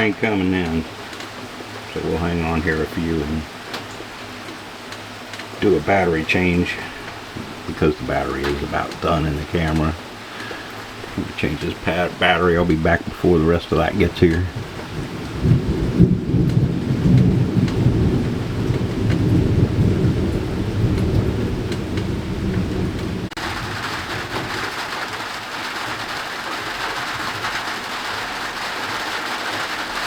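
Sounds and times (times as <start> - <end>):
rain: 0.0 - 30.0
thunder rumbling: 0.0 - 30.0.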